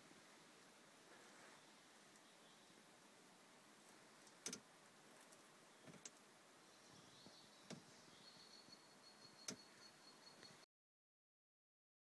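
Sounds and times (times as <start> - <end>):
faint high steady whine: 0.0 - 10.7.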